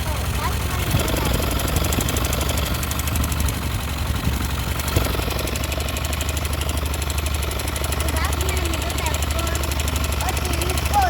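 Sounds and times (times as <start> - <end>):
motorcycle engine idling with knocking: 0.0 - 11.0.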